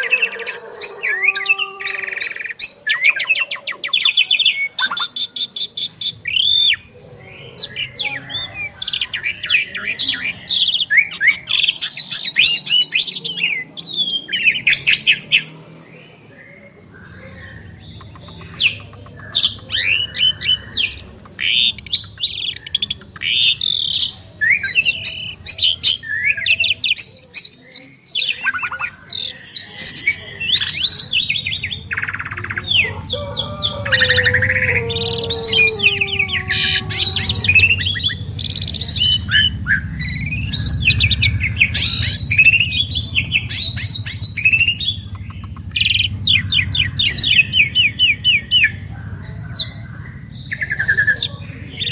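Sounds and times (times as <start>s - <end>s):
starlings singing whistles and chirps: 0.0s - 51.9s.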